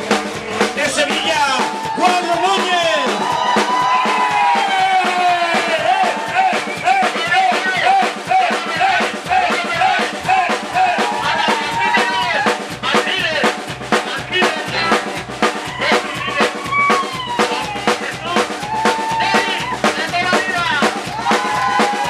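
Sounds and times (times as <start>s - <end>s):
drum kit: 0.0s - 22.0s
rock and roll band playing: 0.0s - 22.0s.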